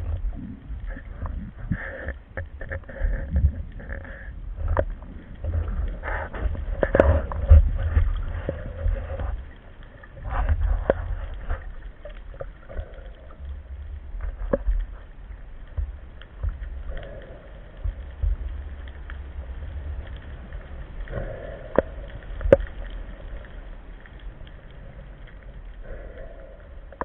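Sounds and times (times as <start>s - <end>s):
muffled underwater water rush: 0.0s - 27.0s.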